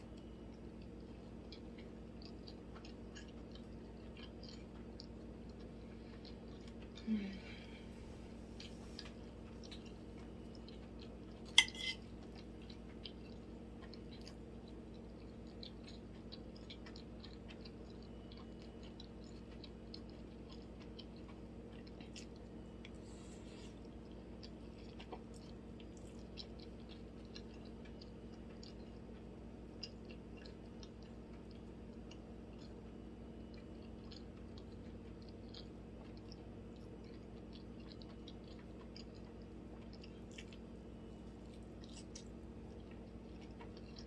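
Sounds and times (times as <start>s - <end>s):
chewing food: 0.0s - 44.0s
faint steady hum: 0.0s - 44.0s.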